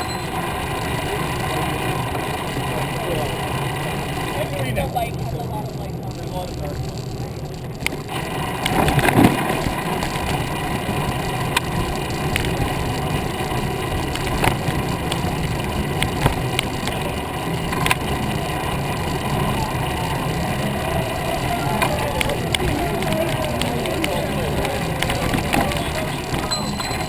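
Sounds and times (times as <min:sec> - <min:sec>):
bicycle clicks and rattles: 0:00.0 - 0:27.0
bicycle tyre and wind noise: 0:00.0 - 0:27.0.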